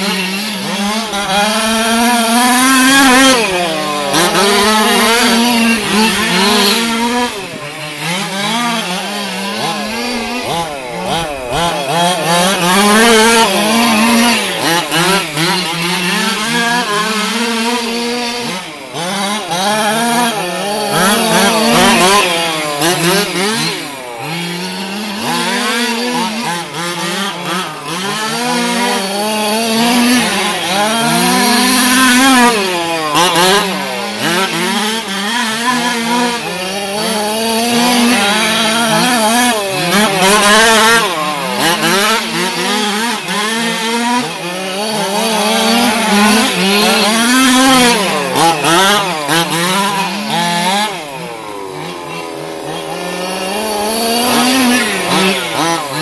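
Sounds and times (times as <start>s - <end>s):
small two-stroke engine revving: 0.0s - 56.0s.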